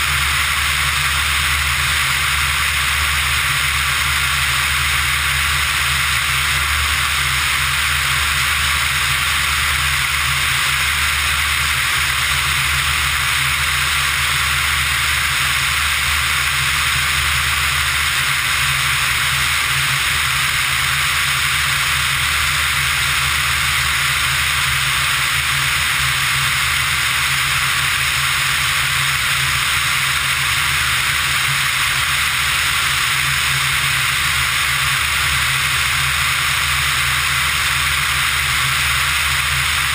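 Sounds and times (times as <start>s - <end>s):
engine and propeller drone: 0.0s - 39.9s.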